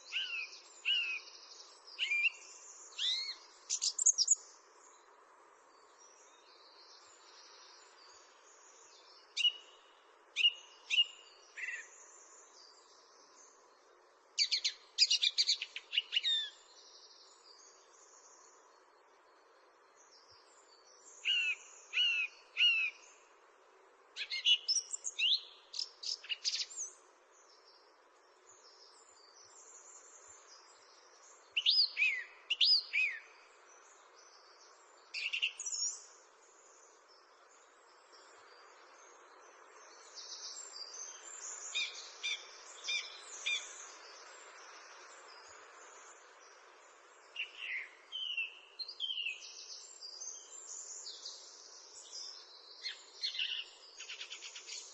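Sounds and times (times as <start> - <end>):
faint steady hiss: 0.0 - 54.9
songbirds singing: 0.0 - 54.9.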